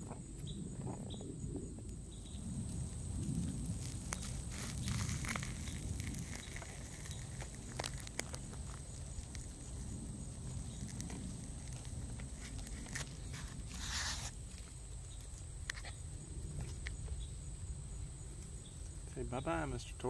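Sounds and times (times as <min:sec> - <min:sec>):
low steady rumble: 0:00.0 - 0:19.4
soft rustling and crackling: 0:00.0 - 0:19.7.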